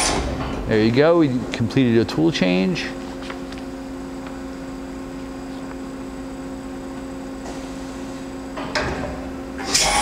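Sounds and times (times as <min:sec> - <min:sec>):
machining center humming: 0:00.0 - 0:10.0.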